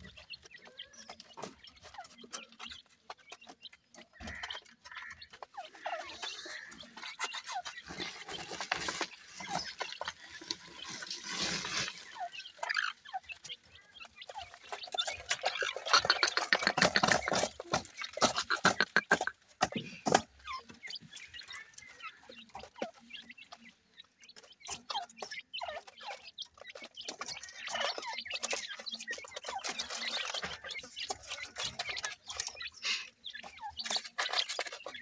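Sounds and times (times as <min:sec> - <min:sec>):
chicks chirping: 0:00.0 - 0:35.0
clicks of beaks and feet on gravel: 0:00.0 - 0:35.0
rapid bird chattering: 0:00.0 - 0:35.0.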